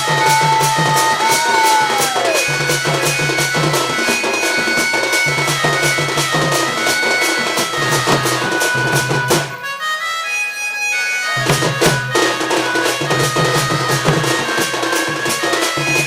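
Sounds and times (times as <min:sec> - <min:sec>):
drum beat: 0:00.0 - 0:09.6, 0:11.4 - 0:16.0
shrill wind instrument melody: 0:00.0 - 0:16.0.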